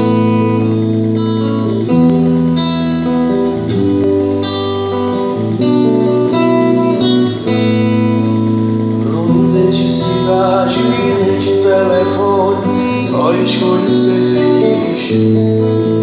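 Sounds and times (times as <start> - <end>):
guitar chords ringing: 0.0 - 16.0.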